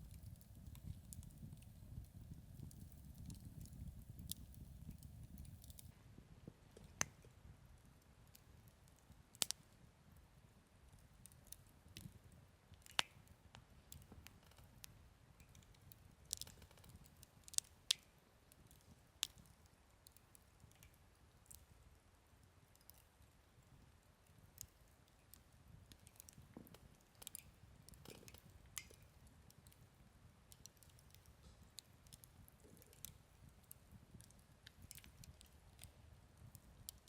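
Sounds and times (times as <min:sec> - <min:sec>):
campfire popping and snapping: 0:00.0 - 0:05.9, 0:06.6 - 0:09.6, 0:10.9 - 0:21.8, 0:22.7 - 0:23.6, 0:24.3 - 0:37.0.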